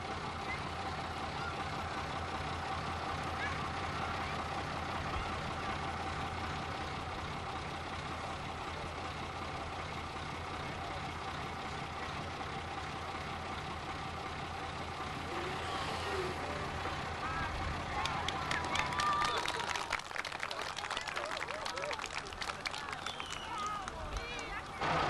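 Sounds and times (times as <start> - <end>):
constant whine: 0.0 - 25.0
truck engine idling: 0.0 - 25.0.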